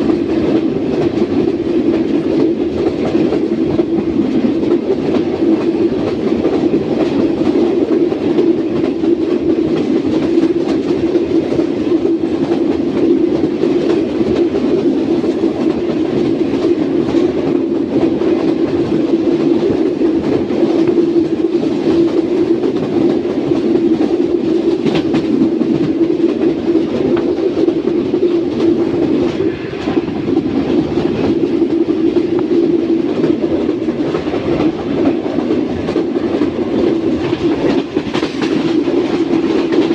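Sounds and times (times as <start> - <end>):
rail clicks: 0.0 - 39.9
train wheels rumbling on track: 0.0 - 39.9.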